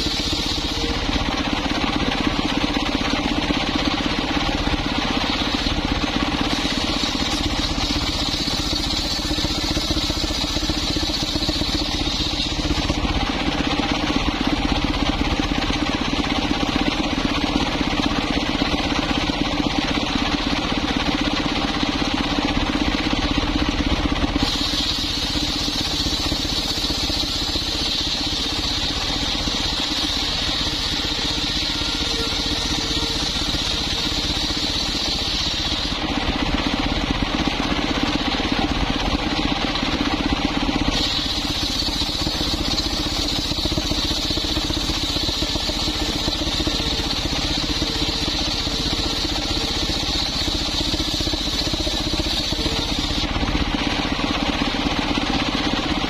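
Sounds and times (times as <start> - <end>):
circular saw droning: 0.0 - 15.7, 24.2 - 40.1, 40.7 - 55.8
high-pitched saw whine: 0.0 - 15.7, 24.2 - 56.0.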